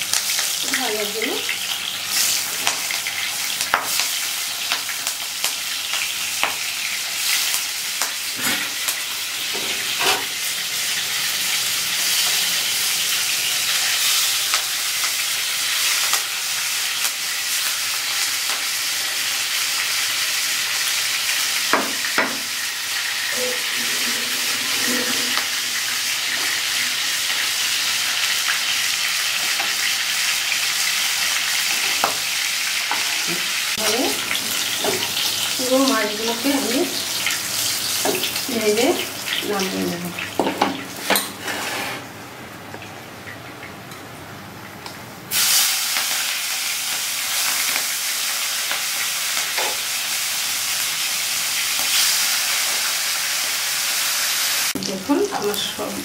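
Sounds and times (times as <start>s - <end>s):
prawns sizzling in hot oil: 0.0s - 42.1s, 44.5s - 56.0s.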